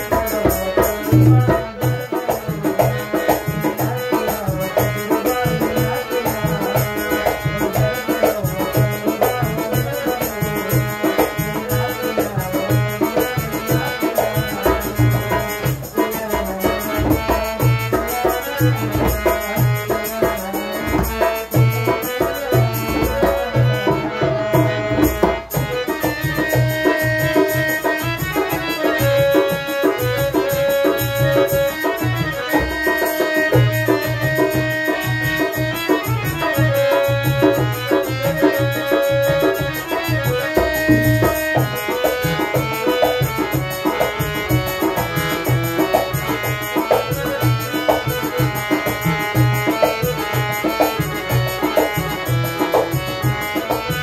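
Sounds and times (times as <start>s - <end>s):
hand drum rhythm: 0.0s - 54.0s
harmonium melody: 0.0s - 54.0s.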